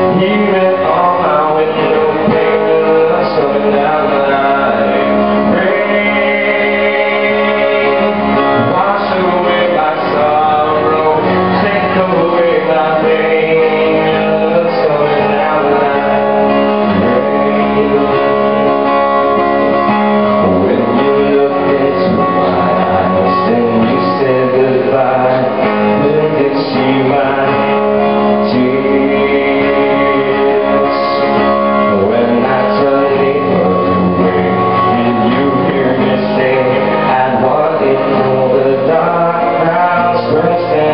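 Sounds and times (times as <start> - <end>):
guitar: 0.0 - 40.9
man singing: 0.0 - 40.9.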